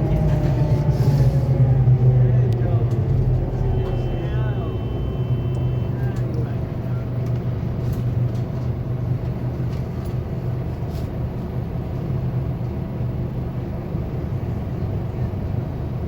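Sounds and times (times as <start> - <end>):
diesel bus engine droning: 0.0 - 16.0.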